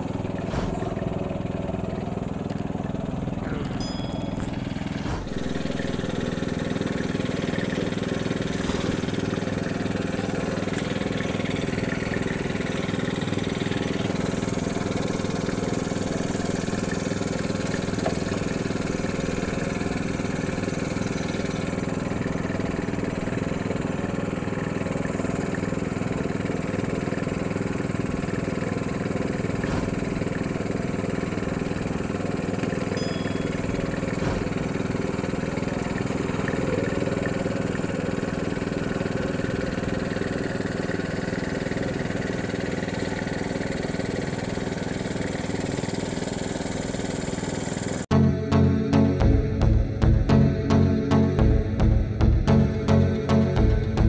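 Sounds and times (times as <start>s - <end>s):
small petrol engine running: 0.0s - 48.1s.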